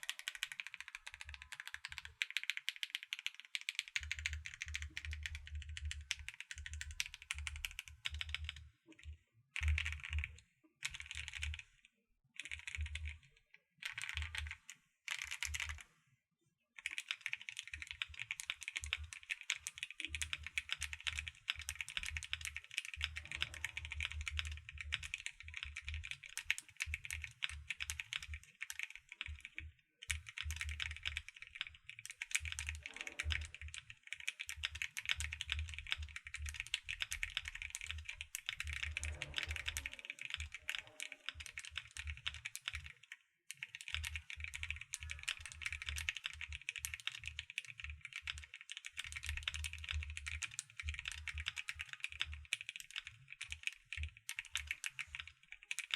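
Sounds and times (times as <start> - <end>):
typing on mechanical keyboard: 0.0 - 11.6, 12.4 - 15.9, 16.8 - 55.9.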